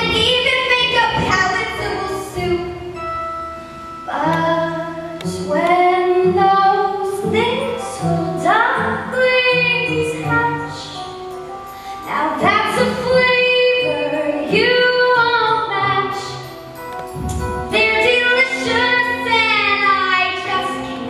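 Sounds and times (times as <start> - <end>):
instrumental accompaniment: 0.0 - 21.0.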